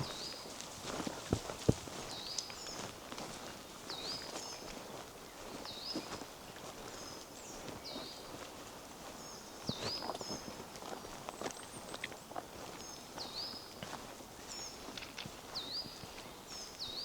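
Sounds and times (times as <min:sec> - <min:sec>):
footsteps on forest path: 0:00.0 - 0:17.0.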